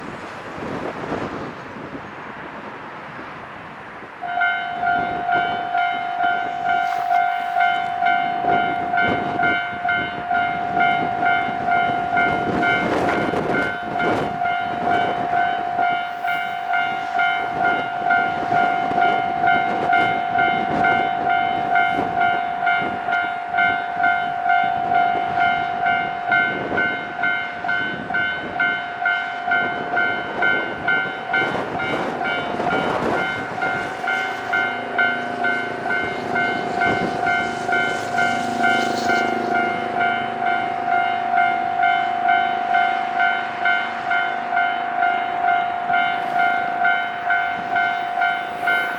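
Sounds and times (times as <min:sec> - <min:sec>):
gusty wind: 0:00.0 - 0:48.9
level-crossing warning alarm: 0:04.2 - 0:48.9.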